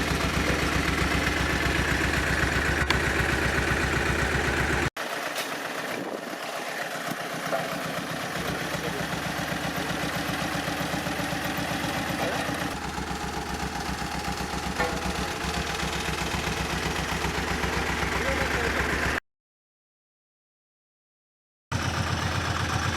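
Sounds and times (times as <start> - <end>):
road roller engine running: 0.0 - 19.2, 21.7 - 22.9.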